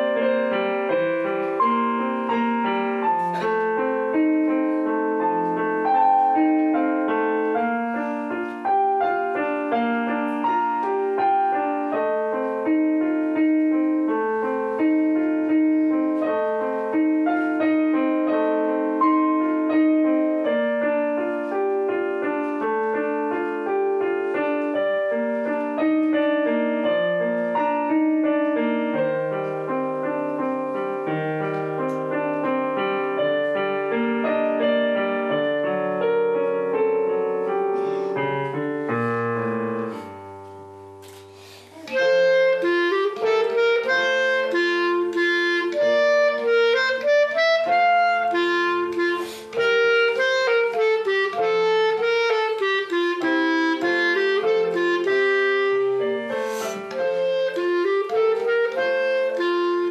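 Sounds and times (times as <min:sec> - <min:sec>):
instrumental music with ringing notes: 0:00.0 - 0:59.9.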